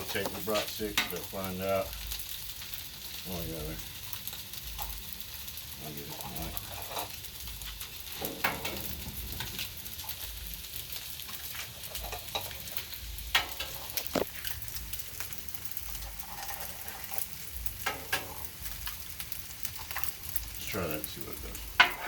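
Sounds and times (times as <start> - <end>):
rice sizzling on a griddle: 0.0 - 22.0.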